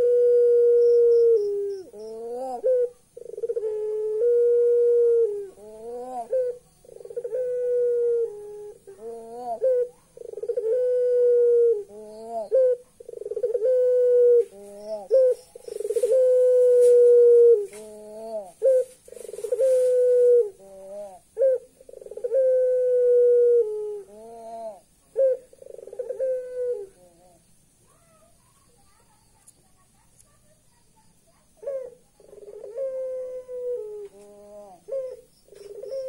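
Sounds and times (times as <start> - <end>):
dove cooing: 0.0 - 28.3, 31.6 - 36.0.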